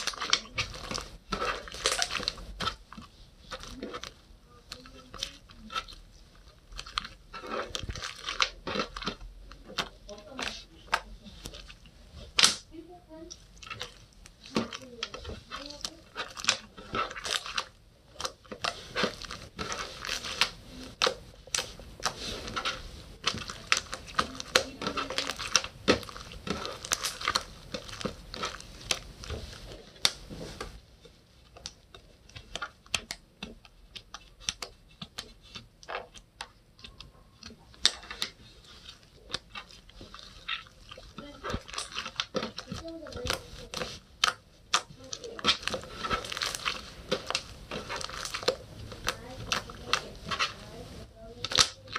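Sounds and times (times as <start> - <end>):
slime squished by hand: 0.0 - 51.9.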